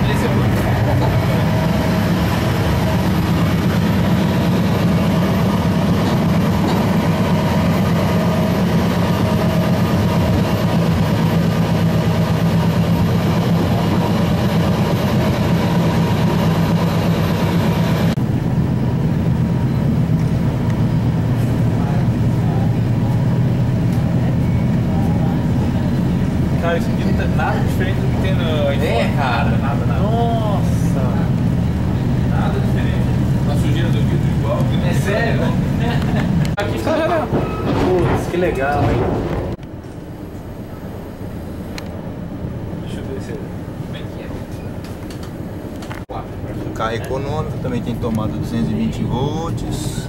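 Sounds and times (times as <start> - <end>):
low hum: 0.0 - 50.0
train car rumble: 0.0 - 50.0.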